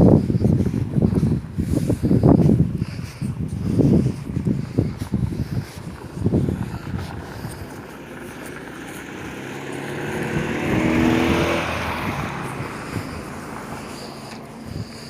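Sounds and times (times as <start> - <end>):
wind buffeting microphone: 0.0 - 15.0
vehicle engine passing by: 2.8 - 15.0.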